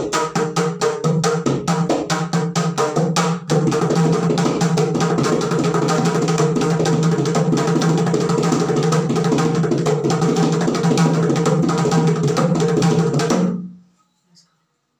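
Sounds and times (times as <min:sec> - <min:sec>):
hand drum fast strokes: 0:00.0 - 0:13.5.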